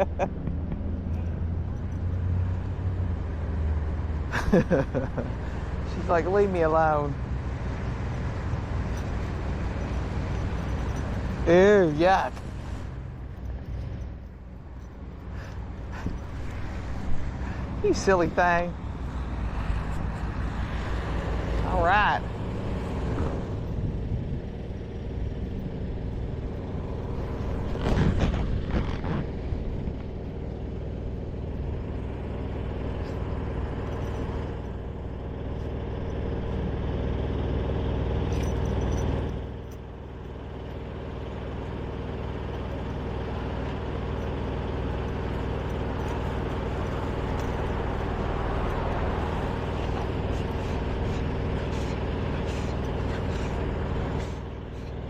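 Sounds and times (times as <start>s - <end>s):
heavy engine running: 0.0s - 55.0s.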